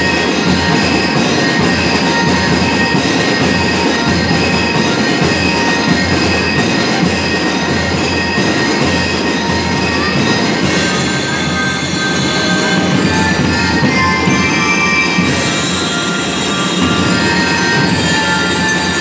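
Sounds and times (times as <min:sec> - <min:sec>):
bell lyres ringing: 0:00.0 - 0:19.0
marching drums beating: 0:00.0 - 0:19.0.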